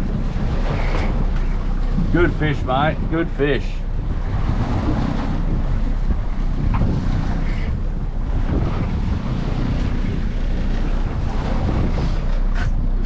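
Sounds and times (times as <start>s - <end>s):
sea waves around boat: 0.0s - 13.0s
wind blowing across microphone: 0.0s - 13.0s.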